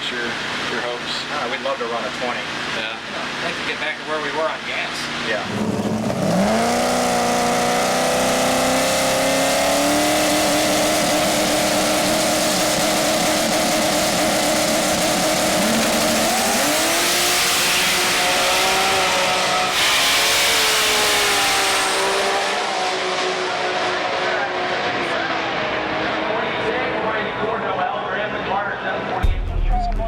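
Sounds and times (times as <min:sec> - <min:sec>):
race car engine revving: 0:00.0 - 0:30.0.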